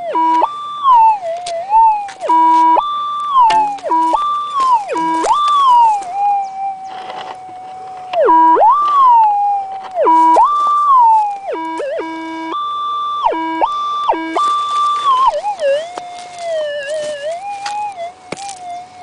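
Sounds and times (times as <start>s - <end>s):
metal detector warbling tone: 0.0s - 19.0s.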